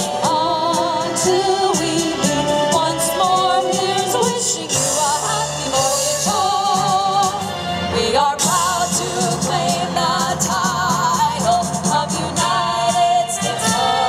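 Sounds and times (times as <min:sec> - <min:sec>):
vocal trio singing in harmony: 0:00.0 - 0:14.0.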